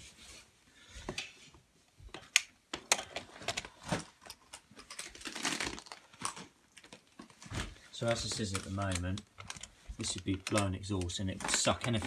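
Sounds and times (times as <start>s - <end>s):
cable being handled: 2.1s - 12.0s.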